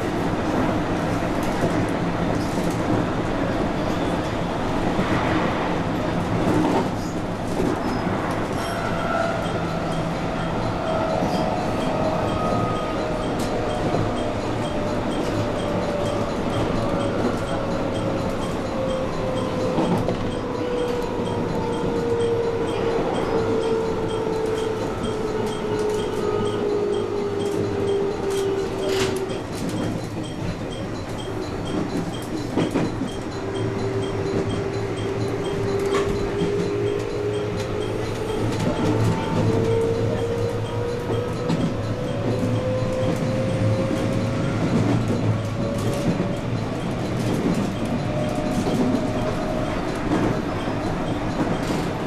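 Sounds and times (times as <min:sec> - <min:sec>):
rail clicks: 0:00.0 - 0:52.0
train rumble: 0:00.0 - 0:52.0.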